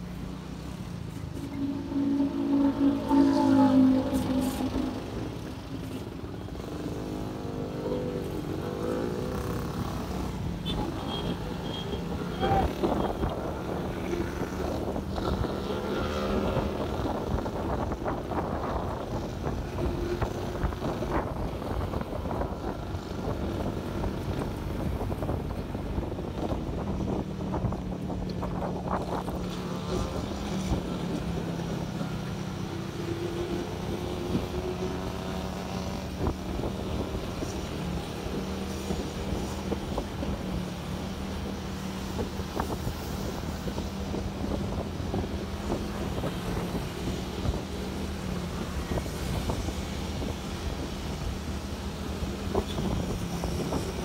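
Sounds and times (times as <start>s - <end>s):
vehicles passing: 0.0s - 54.0s
wind rushing over microphone: 0.6s - 54.0s.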